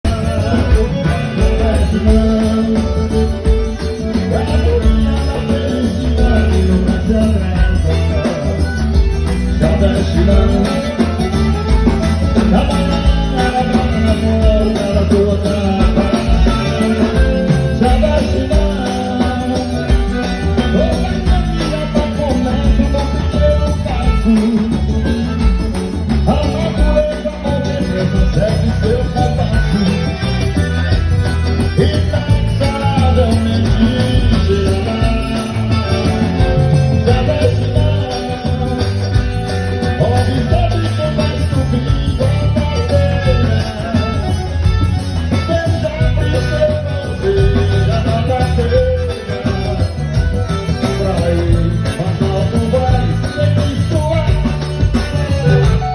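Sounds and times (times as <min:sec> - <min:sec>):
jingling percussion: 0:00.0 - 0:55.9
live band music: 0:00.0 - 0:55.9.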